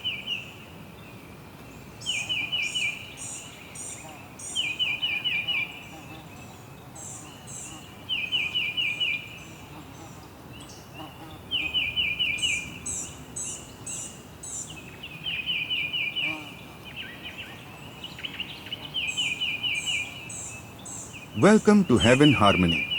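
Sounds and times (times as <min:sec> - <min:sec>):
songbirds singing: 0:00.0 - 0:22.9
steady background hiss: 0:00.0 - 0:22.9.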